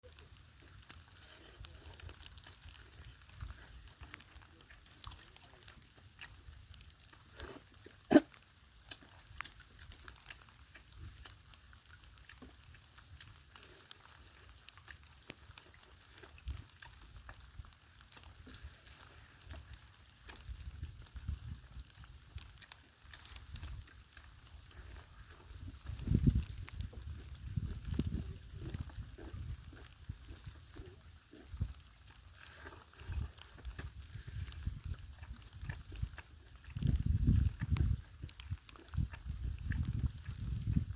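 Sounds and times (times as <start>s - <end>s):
person chewing and lip-smacking: 0.0s - 40.9s.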